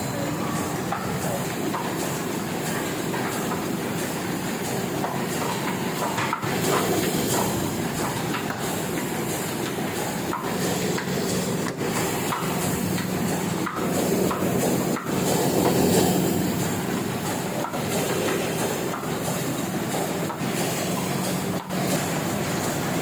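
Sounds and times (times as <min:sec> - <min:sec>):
printing press clattering: 0:00.0 - 0:23.0.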